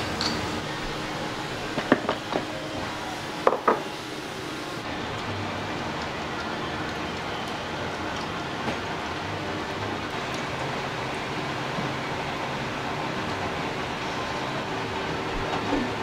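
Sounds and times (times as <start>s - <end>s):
steady kitchen hiss: 0.0s - 16.0s.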